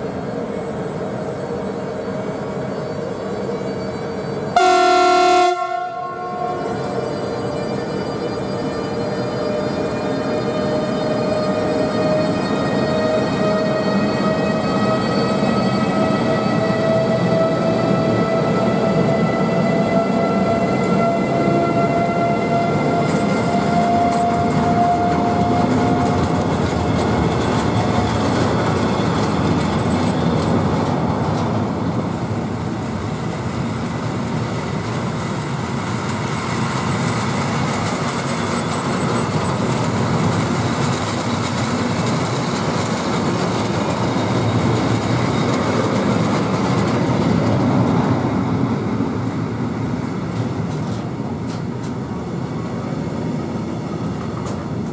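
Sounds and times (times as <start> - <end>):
locomotive whining tones: 0.0 - 54.9
train wheels rumbling on rails: 0.0 - 54.9.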